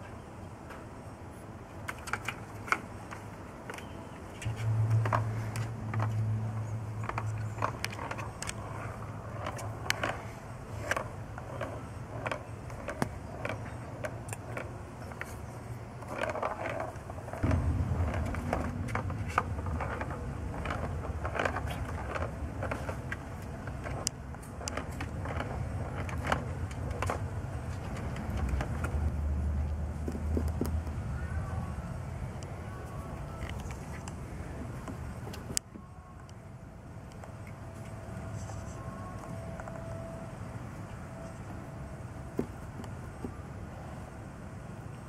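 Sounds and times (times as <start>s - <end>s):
low engine hum: 3.9s - 16.0s, 17.0s - 45.0s.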